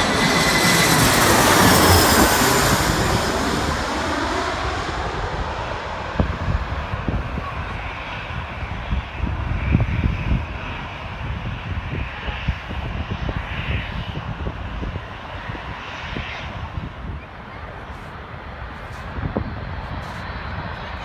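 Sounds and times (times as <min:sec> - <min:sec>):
jet plane landing: 0:00.0 - 0:21.0.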